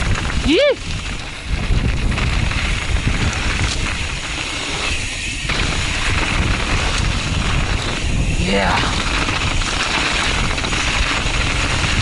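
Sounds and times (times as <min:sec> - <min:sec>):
bike tyres and chain rattling: 0:00.0 - 0:12.0
wind buffeting microphone: 0:00.0 - 0:12.0.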